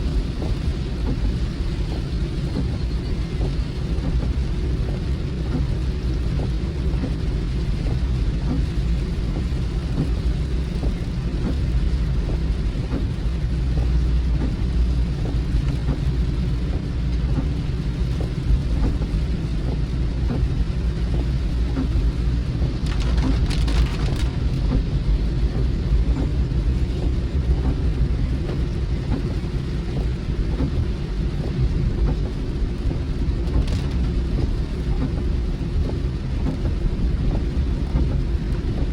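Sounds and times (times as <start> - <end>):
car road and engine rumble: 0.0 - 38.9
rain hissing: 0.0 - 38.9.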